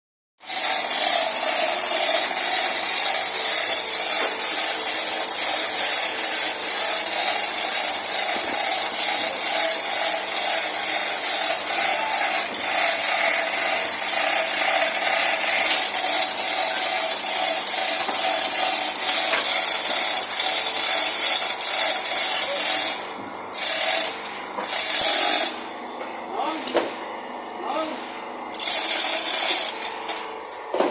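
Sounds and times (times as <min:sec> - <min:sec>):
power tool grinding: 0:00.4 - 0:30.9.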